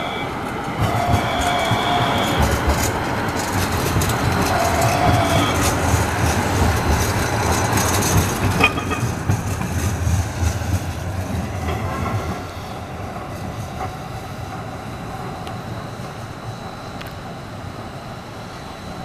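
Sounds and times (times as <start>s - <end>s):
clicks of wheels on track: 0.0s - 17.2s
light rail train wheels rumbling: 0.0s - 19.0s.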